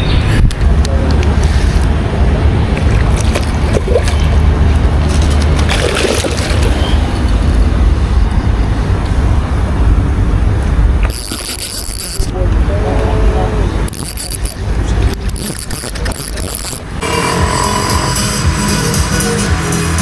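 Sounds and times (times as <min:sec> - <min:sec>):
wind buffeting microphone: 0:00.0 - 0:17.1.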